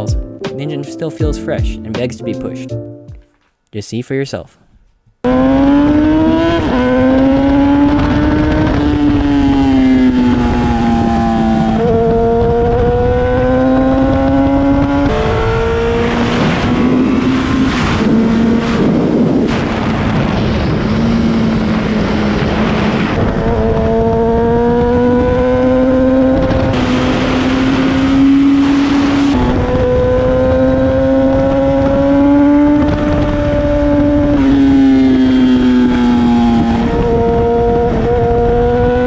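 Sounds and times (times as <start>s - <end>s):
motorcycle engine revving: 5.2s - 39.0s.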